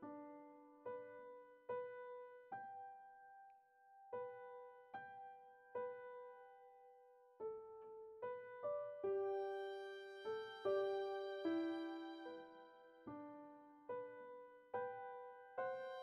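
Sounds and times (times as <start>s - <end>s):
soft slow keyboard music: 0.0s - 16.0s.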